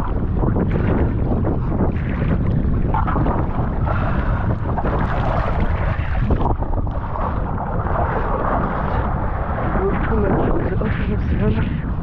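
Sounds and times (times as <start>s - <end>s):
sea water rushing and splashing: 0.0s - 12.0s
wind buffeting microphone: 0.0s - 12.0s.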